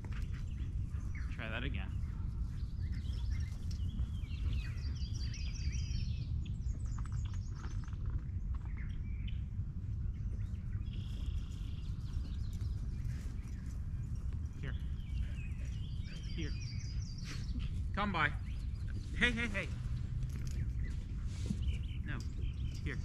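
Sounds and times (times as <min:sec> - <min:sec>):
birds chirping and singing: 0:00.0 - 0:23.0
steady low rumble: 0:00.0 - 0:23.0.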